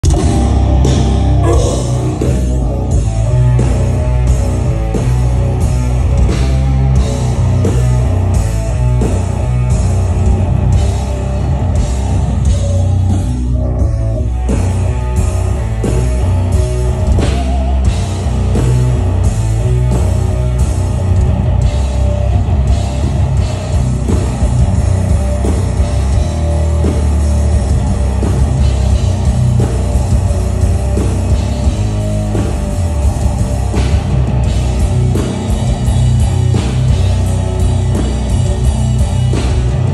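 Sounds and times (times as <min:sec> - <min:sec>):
death metal band playing live: 0:00.0 - 0:39.9.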